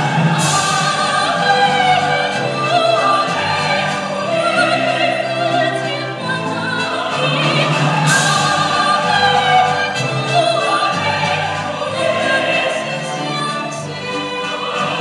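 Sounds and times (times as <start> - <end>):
instrumental accompaniment: 0.0 - 15.0
woman singing operatically: 0.4 - 15.0.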